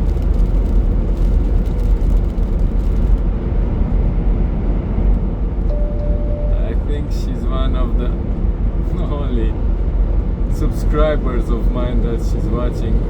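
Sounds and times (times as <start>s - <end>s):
road rumble: 0.0s - 13.0s
truck engine drone: 0.0s - 13.0s.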